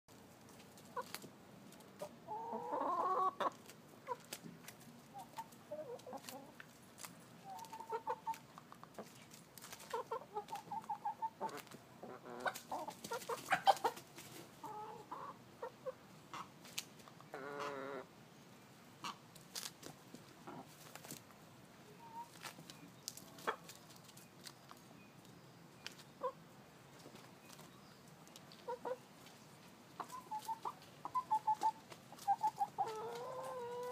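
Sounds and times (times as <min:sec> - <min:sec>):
chickens clucking and calling: 0:00.5 - 0:06.8, 0:07.4 - 0:18.2, 0:19.0 - 0:19.3, 0:20.2 - 0:24.8, 0:25.8 - 0:33.9.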